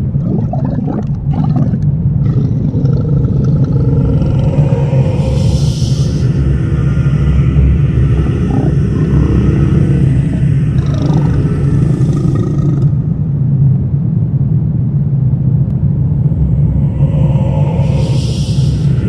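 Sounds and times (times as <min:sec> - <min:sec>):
deep rumbling drone: 0:00.0 - 0:19.0.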